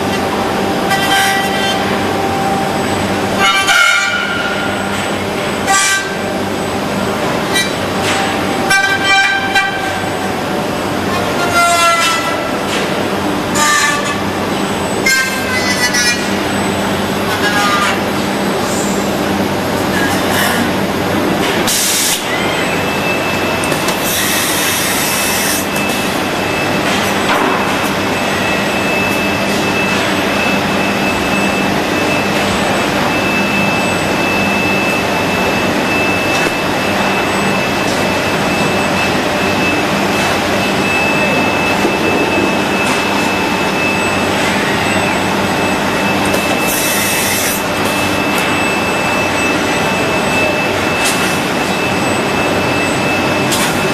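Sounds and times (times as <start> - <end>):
high even machine whine: 0.0 - 53.9.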